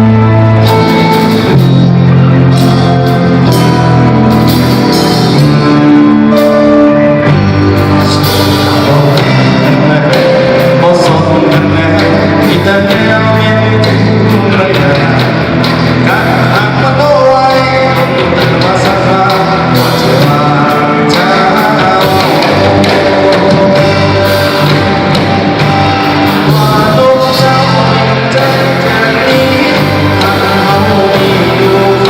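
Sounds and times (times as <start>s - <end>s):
person singing: 0.0s - 32.0s
rock band playing loudly: 0.0s - 32.0s.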